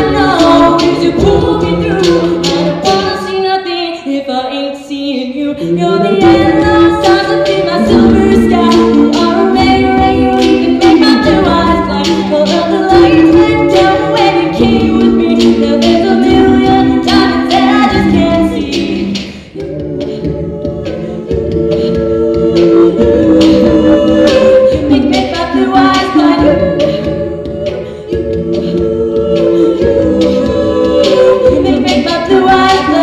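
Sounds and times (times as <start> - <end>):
vocal percussion beat: 0.0 - 33.0
women singing in harmony: 0.0 - 33.0.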